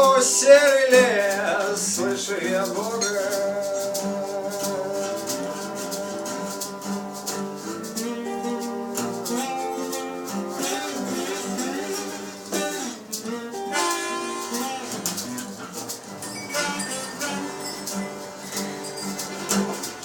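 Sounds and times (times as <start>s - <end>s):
guitar playing: 0.0s - 20.0s
shaker keeping time: 0.0s - 20.0s.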